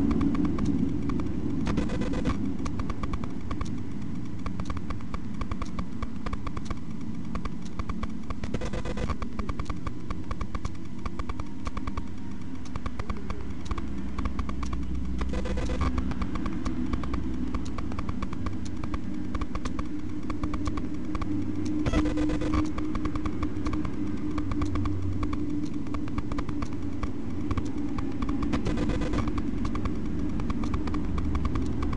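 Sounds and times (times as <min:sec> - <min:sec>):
engine low drone: 0:00.0 - 0:31.9
fast light clicking: 0:00.0 - 0:31.9.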